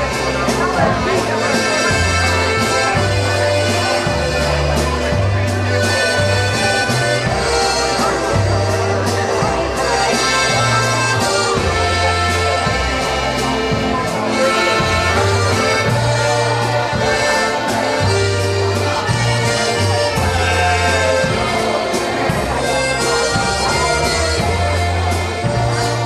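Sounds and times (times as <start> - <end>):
button accordion: 0.0 - 26.0
dance band playing a waltz: 0.0 - 26.0
steady bass line: 0.0 - 26.0.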